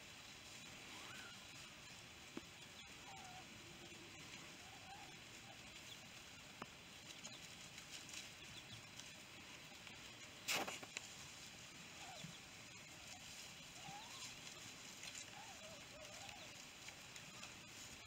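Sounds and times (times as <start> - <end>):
light rustling: 0.4 - 18.0.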